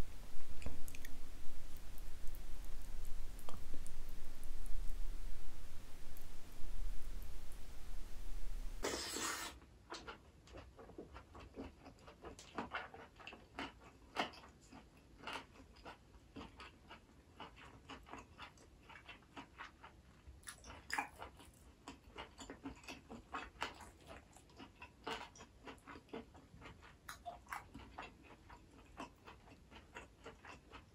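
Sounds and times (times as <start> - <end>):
steady hiss with low hum: 0.0 - 30.9
close chewing with wet clicks: 0.4 - 5.0, 9.9 - 30.9.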